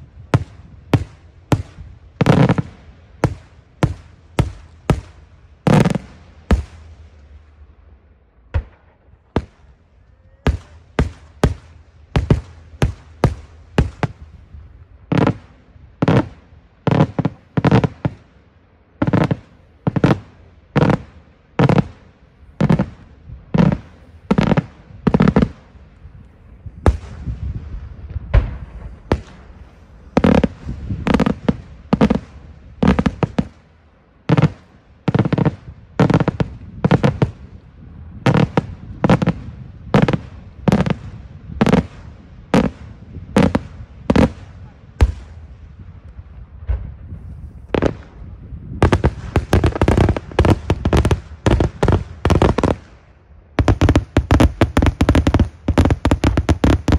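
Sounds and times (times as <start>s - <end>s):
fireworks bursting bangs: 0.0s - 7.7s, 8.4s - 56.9s.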